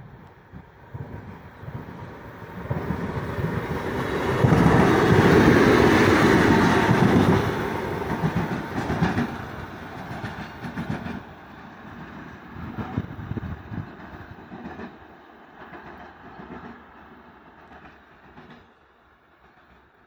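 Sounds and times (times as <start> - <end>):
diesel locomotive passing: 0.0 - 20.0.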